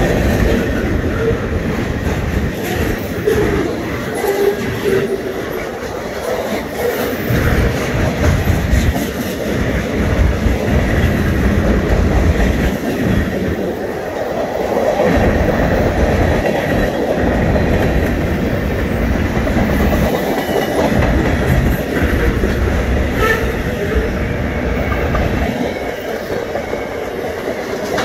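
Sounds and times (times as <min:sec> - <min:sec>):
freight cars rumbling on rails: 0:00.0 - 0:28.0.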